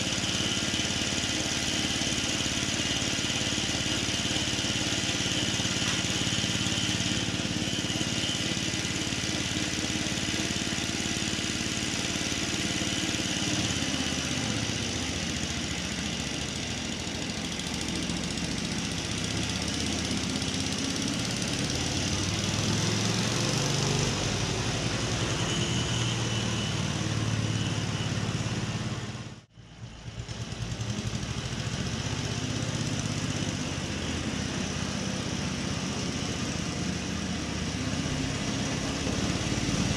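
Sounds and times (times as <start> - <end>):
mower petrol engine running: 0.0 - 39.9.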